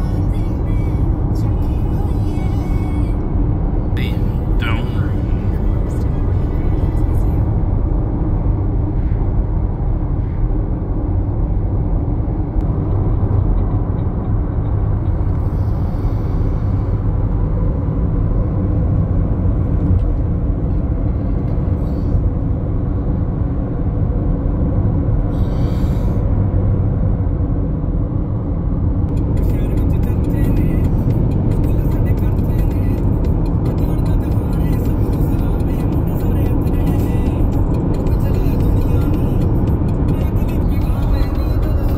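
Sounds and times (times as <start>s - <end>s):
car road rumble: 0.0s - 41.9s.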